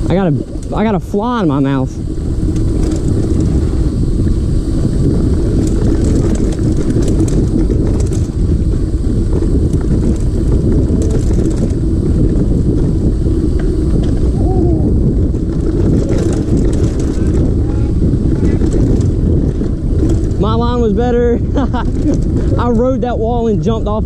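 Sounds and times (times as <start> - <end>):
bike rattling on dirt trail: 0.0 - 24.0
wind rumble on microphone: 0.0 - 24.0.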